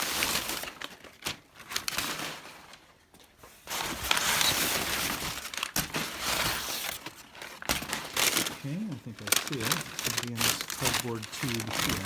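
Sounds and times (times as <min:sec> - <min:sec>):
packing material rustling: 0:00.0 - 0:12.0.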